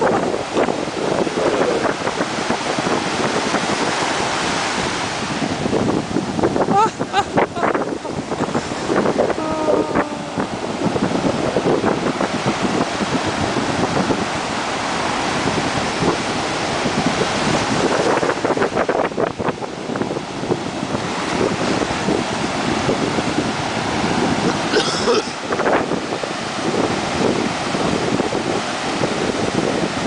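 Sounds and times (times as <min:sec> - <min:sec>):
ocean surf breaking: 0:00.0 - 0:30.0
wind buffeting microphone: 0:00.0 - 0:30.0.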